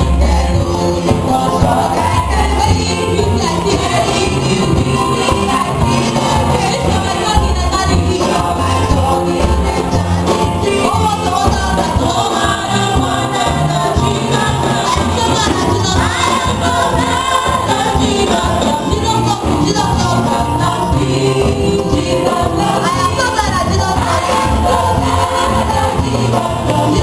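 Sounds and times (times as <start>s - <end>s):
band with pulsing bass beat: 0.0s - 27.0s
voices singing: 0.0s - 27.0s.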